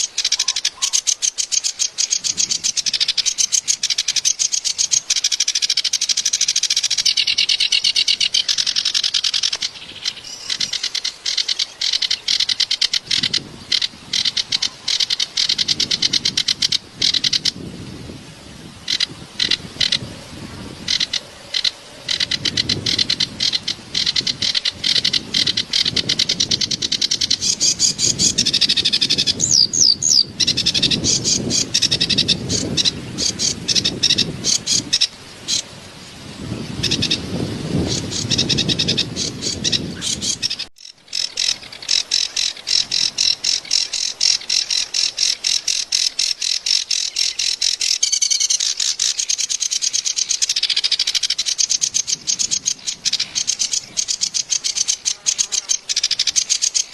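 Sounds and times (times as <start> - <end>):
reed warbler chattering song: 0.0 - 56.9.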